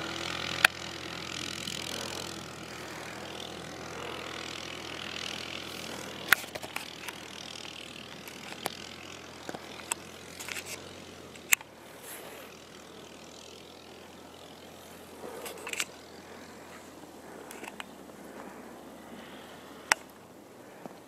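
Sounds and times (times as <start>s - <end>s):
distant quad engine running: 0.0s - 21.0s.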